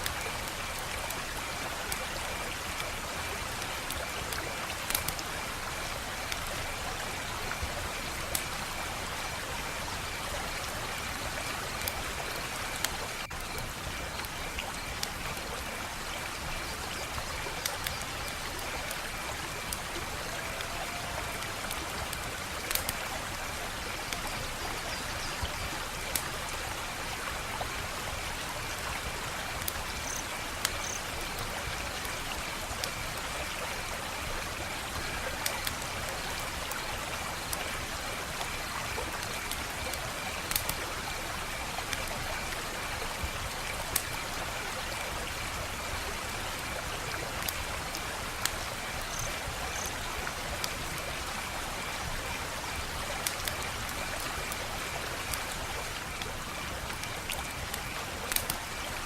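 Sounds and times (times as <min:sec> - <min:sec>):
wood fire crackling: 0:00.0 - 0:16.2, 0:17.1 - 0:24.8, 0:25.8 - 0:42.1, 0:47.4 - 0:59.0.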